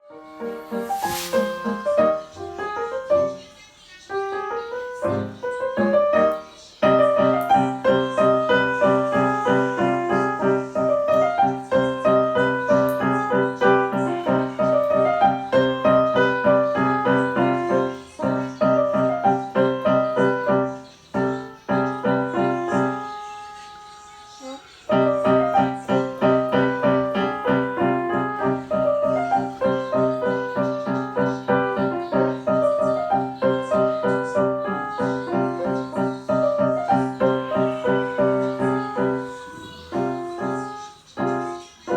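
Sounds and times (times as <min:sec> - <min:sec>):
keyboard playing melody: 0:00.0 - 0:41.9.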